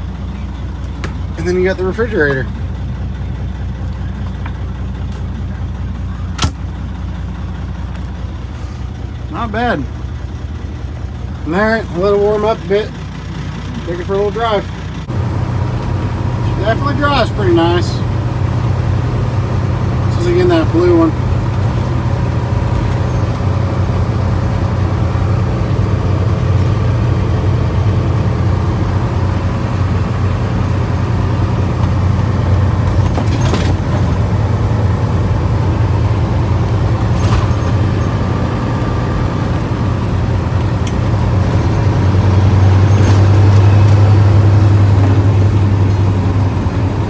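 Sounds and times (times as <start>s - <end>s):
diesel truck engine drone: 0.0s - 47.0s.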